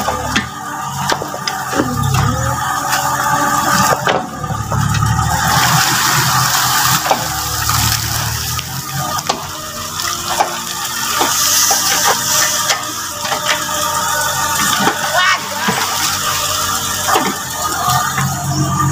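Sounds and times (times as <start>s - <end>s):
diesel engine running: 0.0s - 18.9s
water pouring and splashing: 0.0s - 18.9s.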